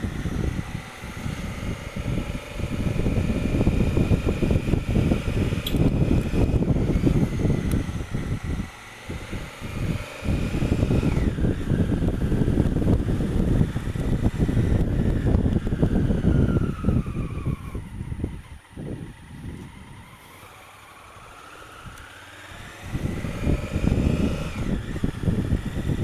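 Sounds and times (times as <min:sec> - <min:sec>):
faint high whine: 0:00.0 - 0:26.0
motorcycle engine rumbling: 0:00.0 - 0:26.0.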